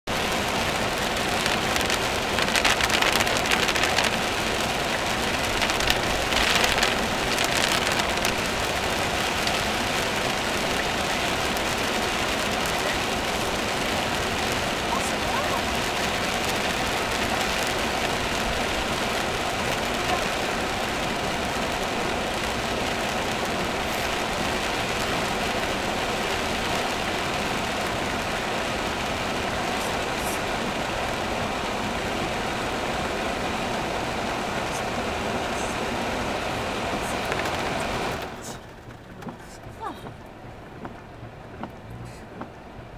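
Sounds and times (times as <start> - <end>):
rain pounding down: 0.0 - 42.9
tyres hissing on wet road: 0.1 - 40.1, 41.0 - 42.9.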